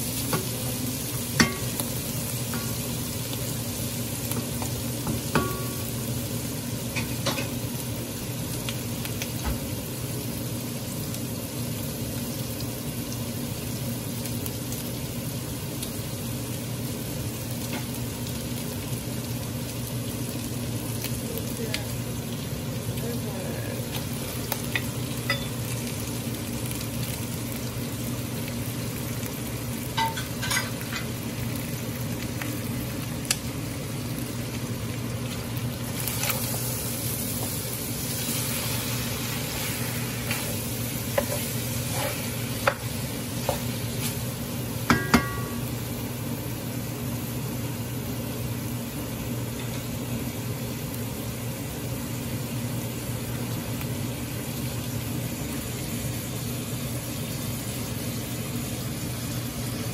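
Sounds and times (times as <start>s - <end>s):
meat and onions sizzling: 0.0s - 59.9s.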